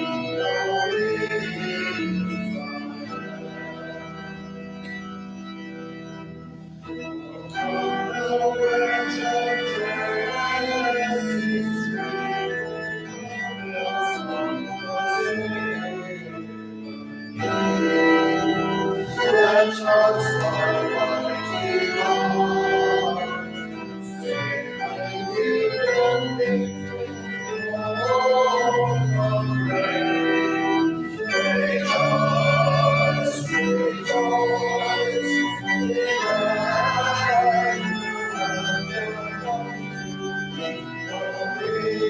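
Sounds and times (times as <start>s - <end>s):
organ playing sustained chords: 0.0s - 42.0s.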